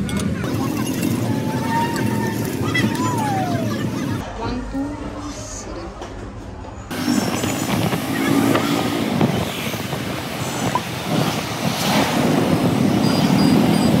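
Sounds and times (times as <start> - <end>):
scooter engines: 0.0 - 4.2, 6.9 - 14.0
road noise: 0.0 - 14.0.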